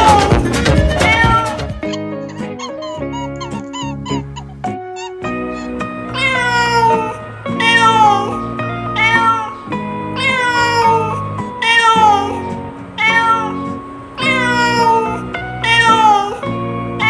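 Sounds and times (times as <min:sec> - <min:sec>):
cat meowing: 0:00.0 - 0:16.5
background music with held notes: 0:00.0 - 0:17.0.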